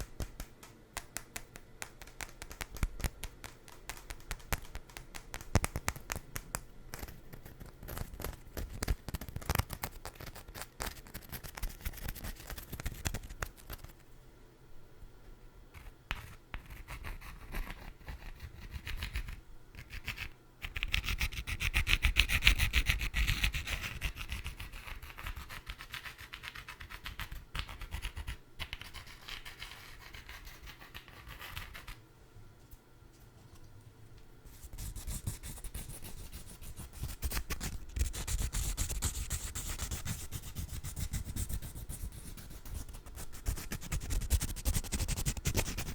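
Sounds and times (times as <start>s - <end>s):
scratching and rubbing on food: 0.0s - 14.0s, 15.7s - 32.0s, 34.5s - 45.9s.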